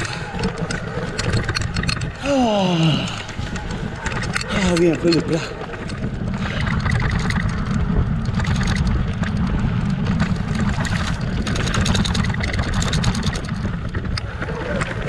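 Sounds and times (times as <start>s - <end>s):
bike rattles and ticks: 0.0s - 15.0s
wind buffeting microphone: 0.0s - 15.0s.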